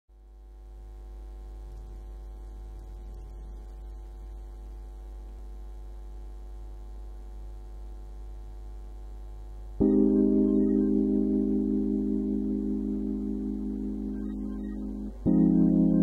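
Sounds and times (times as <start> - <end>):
low hum with overtones: 0.1 - 16.0.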